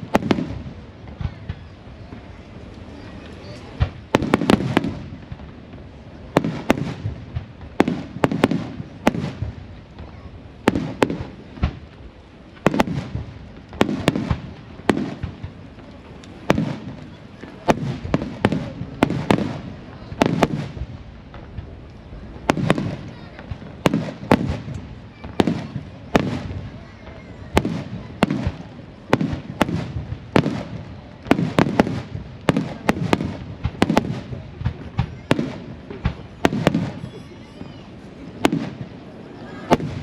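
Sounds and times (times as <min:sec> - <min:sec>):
small firework cracks: 0:00.0 - 0:40.0.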